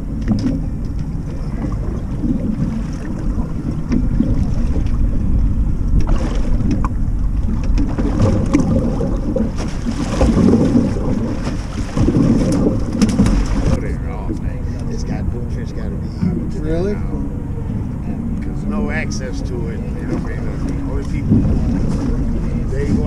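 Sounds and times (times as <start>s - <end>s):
water washing against boat hull: 0.0s - 16.8s, 18.4s - 23.0s
wind buffeting microphone: 0.0s - 23.0s.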